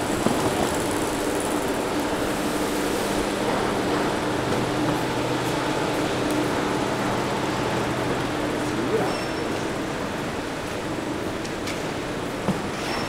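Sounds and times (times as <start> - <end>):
station concourse hum and rush: 0.0 - 13.0.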